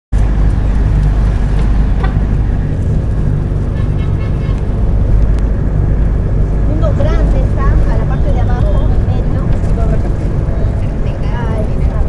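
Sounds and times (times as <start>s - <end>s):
bus engine rumble: 0.1s - 12.0s.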